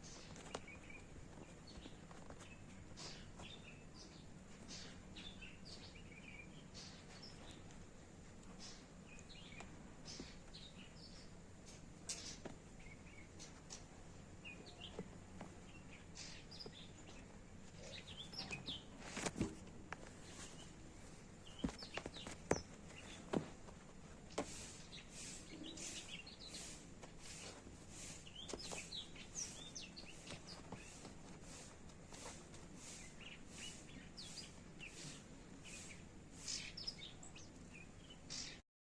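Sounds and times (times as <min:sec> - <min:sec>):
birds chirping faintly: 0:00.0 - 0:38.6
steady background hiss: 0:00.0 - 0:38.6.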